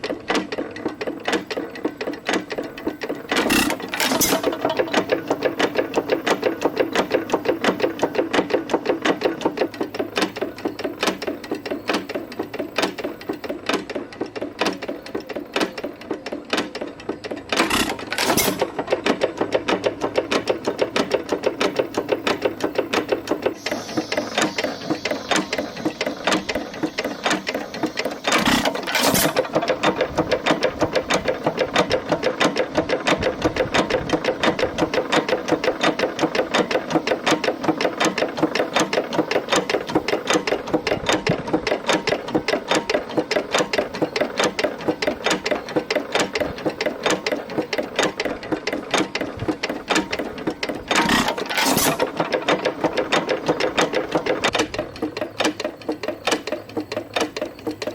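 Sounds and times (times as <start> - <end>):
engine clattering: 0.0 - 57.9.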